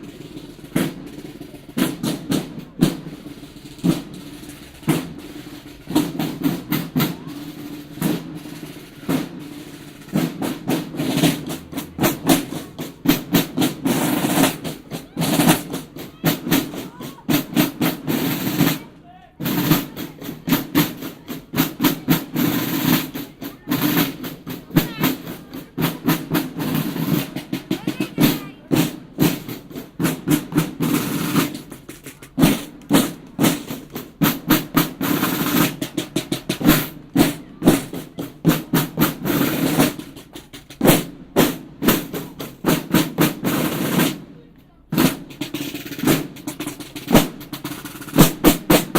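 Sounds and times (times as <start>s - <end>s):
snare drum rolls: 0.0s - 48.9s
snare drums playing marching cadence: 0.0s - 48.9s.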